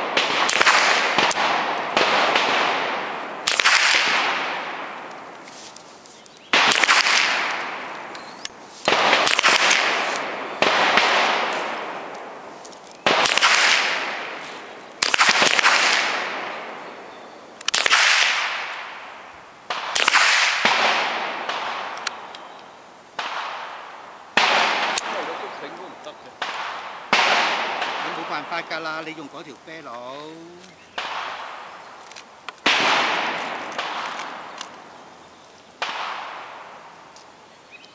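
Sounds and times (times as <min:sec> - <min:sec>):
rifle shots echoing: 0:00.0 - 0:05.5, 0:06.5 - 0:22.5, 0:23.1 - 0:29.9, 0:30.9 - 0:37.1.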